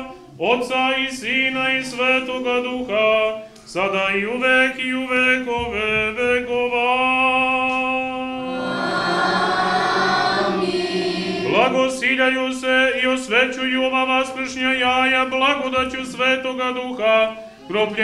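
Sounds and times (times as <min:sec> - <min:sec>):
sung chant melody: 0:00.0 - 0:18.0
voices singing together: 0:00.0 - 0:18.0.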